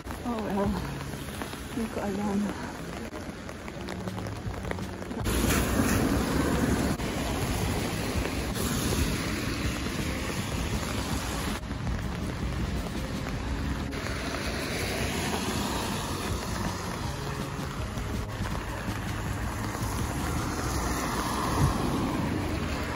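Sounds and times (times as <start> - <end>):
rain on wet pavement: 0.0 - 22.9
wind rumble on microphone: 0.0 - 22.9.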